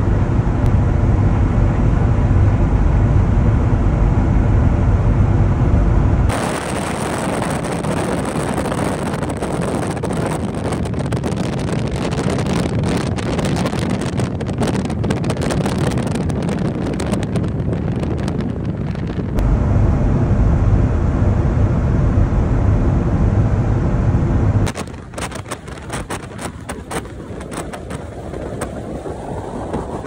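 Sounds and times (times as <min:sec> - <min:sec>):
car road noise: 0:00.0 - 0:30.0
wind buffeting microphone: 0:00.0 - 0:30.0.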